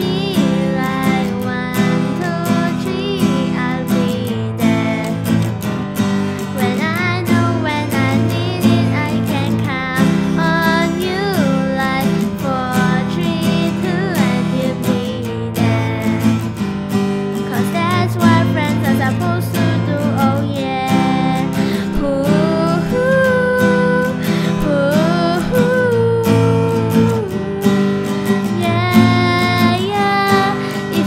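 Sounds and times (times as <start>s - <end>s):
acoustic guitar strumming: 0.0s - 31.0s
girl singing: 0.0s - 31.0s.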